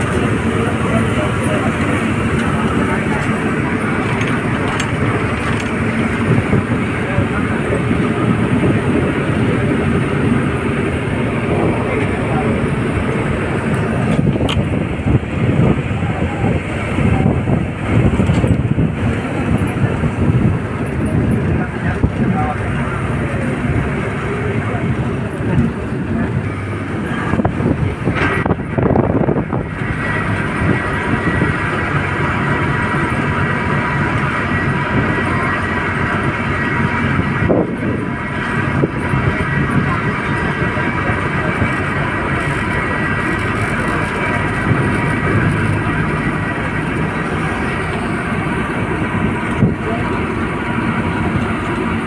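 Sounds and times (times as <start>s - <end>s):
vehicle running hum: 0.0s - 52.0s.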